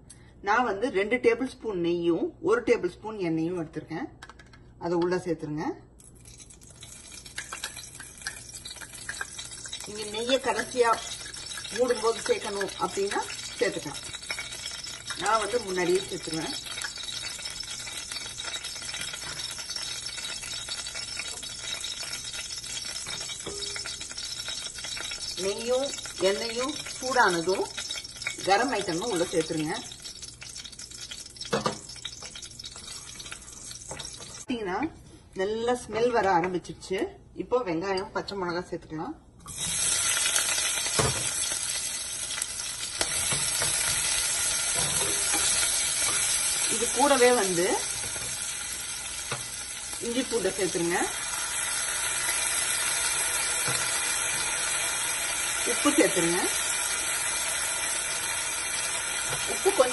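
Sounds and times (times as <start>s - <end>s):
oil sizzling and crackling: 6.0s - 34.6s, 39.4s - 59.9s.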